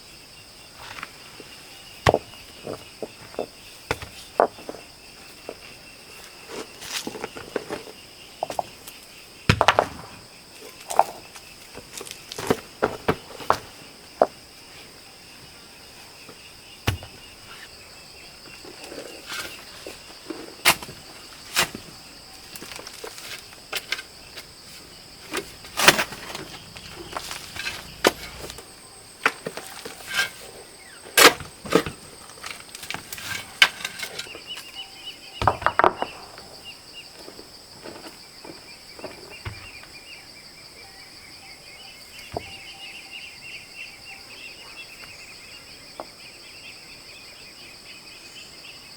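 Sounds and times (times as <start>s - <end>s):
insects droning: 0.0s - 48.9s.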